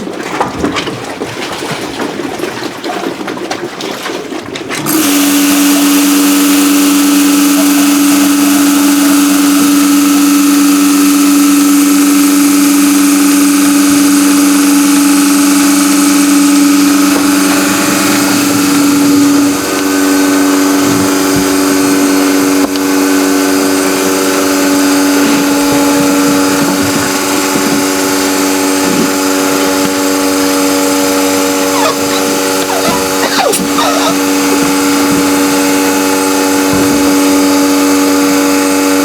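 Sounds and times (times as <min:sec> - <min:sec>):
motor humming: 0:04.8 - 0:39.0.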